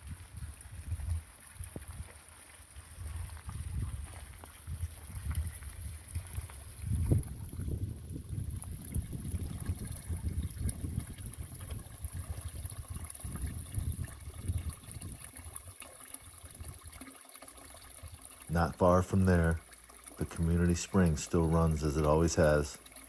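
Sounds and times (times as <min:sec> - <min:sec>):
water running and trickling: 0:00.0 - 0:23.0.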